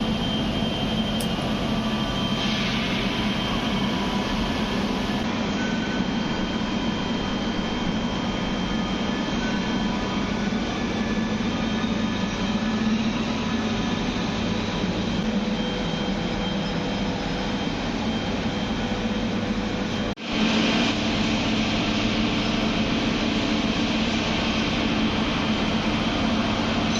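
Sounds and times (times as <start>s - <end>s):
industrial machinery drone: 0.0s - 26.9s.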